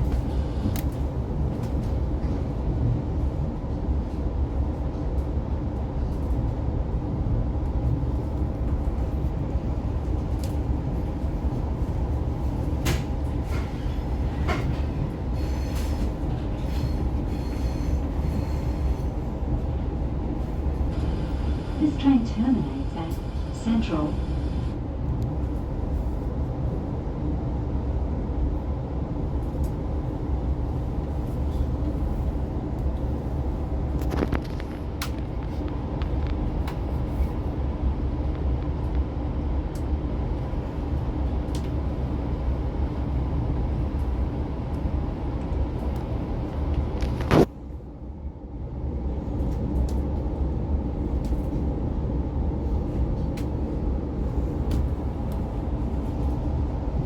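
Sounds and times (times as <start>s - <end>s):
constant hum tones: 0.0s - 57.0s
train running gear rumble: 0.0s - 57.0s.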